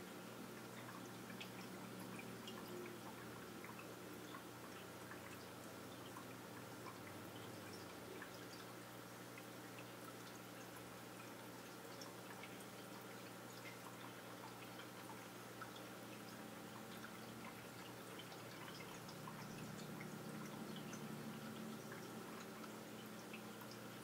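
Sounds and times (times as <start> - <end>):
aquarium hum: 0.0 - 24.0
water drips and ticks: 0.0 - 24.0.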